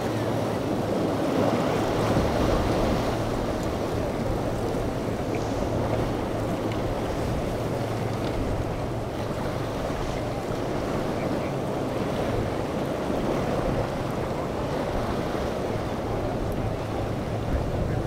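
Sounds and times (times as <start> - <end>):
boat engine hum: 0.0 - 18.0
breaking wake and surf: 0.0 - 18.0
wind on microphone: 0.0 - 18.0.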